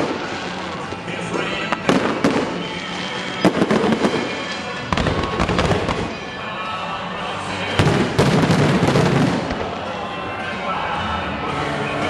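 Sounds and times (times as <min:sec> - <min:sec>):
fireworks crackling: 0:00.0 - 0:10.3.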